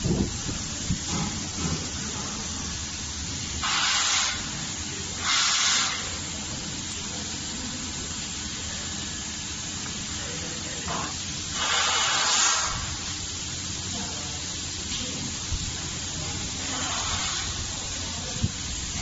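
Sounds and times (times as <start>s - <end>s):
short hissing bursts: 0.0s - 19.0s
steady background noise: 0.0s - 19.0s.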